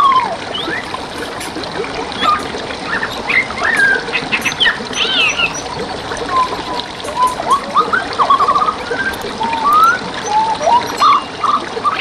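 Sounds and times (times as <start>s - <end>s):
stream rushing and trickling: 0.0s - 12.0s
songbirds chirping: 0.5s - 11.4s.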